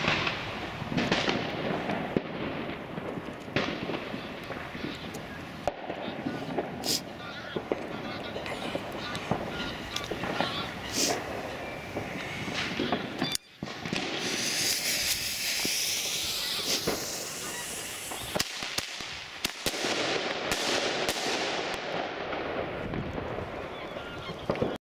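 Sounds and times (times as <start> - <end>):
firework hissing sparks: 0.0 - 7.2, 8.3 - 21.8
firework cracks and bangs: 0.0 - 24.8.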